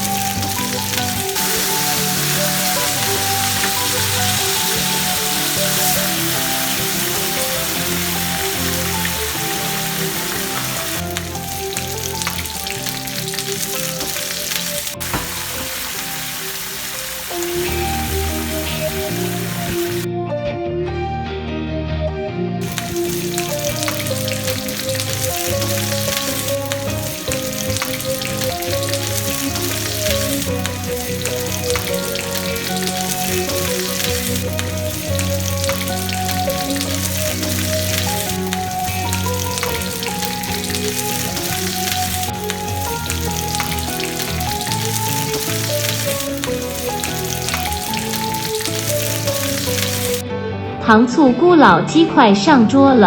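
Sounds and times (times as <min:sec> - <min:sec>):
food sizzling in hot oil: 0:00.0 - 0:20.1, 0:22.6 - 0:50.2
background music: 0:00.0 - 0:53.0.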